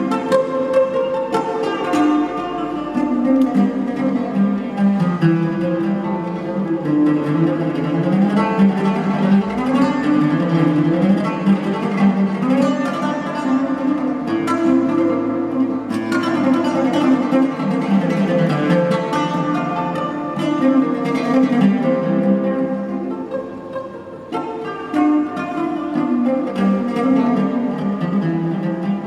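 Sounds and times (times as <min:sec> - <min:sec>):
oud plucked melody: 0:00.0 - 0:29.0.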